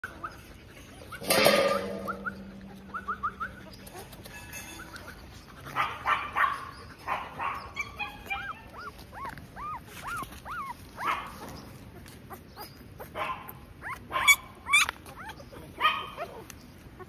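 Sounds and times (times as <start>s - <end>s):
puppies whimpering and squeaking: 0.0s - 17.0s.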